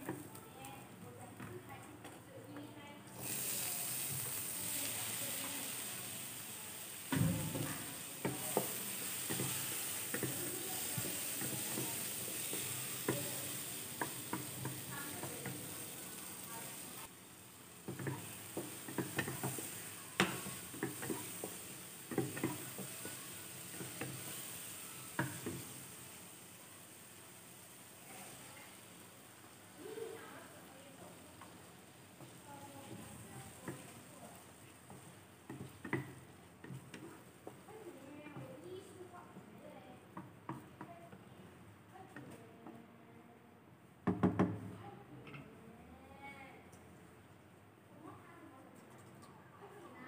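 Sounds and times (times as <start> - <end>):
vegetables sizzling in oil: 0.0 - 2.2, 3.0 - 41.5.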